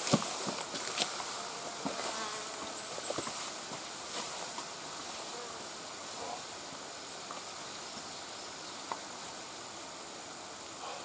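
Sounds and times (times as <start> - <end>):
outdoor ambience hiss: 0.0 - 11.0.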